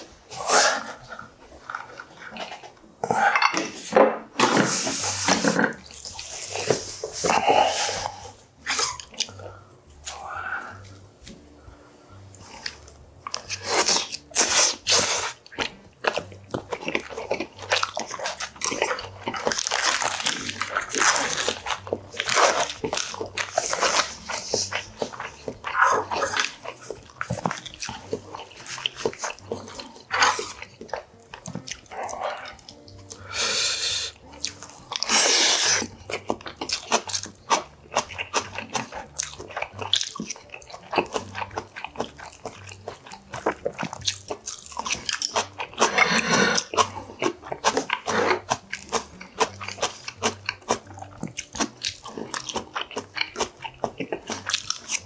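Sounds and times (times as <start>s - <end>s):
chewing and crunchy bites: 5.2s - 11.5s, 12.2s - 33.3s, 34.0s - 55.0s.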